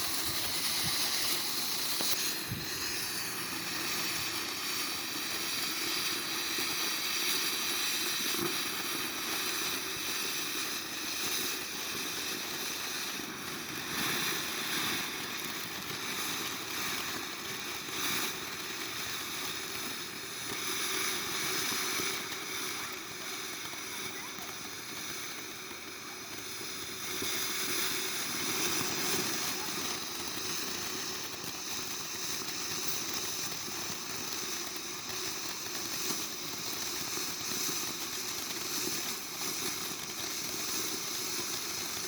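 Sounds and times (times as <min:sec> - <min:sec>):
firework fountain hissing: 0:00.0 - 0:42.0.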